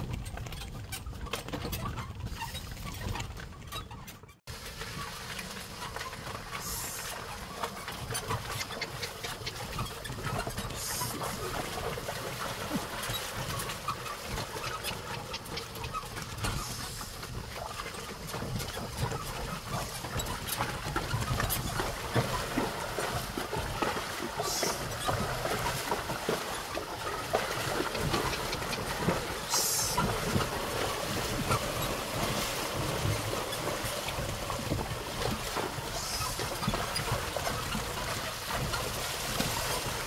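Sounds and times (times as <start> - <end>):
cart rattling and knocking: 0.0 - 40.0.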